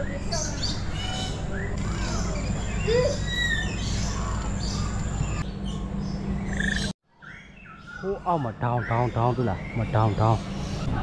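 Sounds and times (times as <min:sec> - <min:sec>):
birds chirping and whistling: 0:00.0 - 0:11.0
steady low hum: 0:00.0 - 0:11.0.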